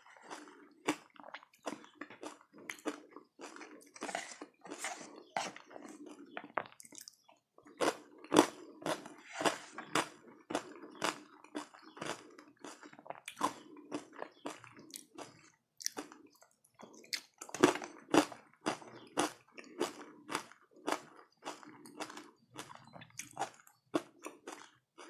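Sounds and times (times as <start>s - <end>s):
crunchy chewing: 0.0s - 25.0s.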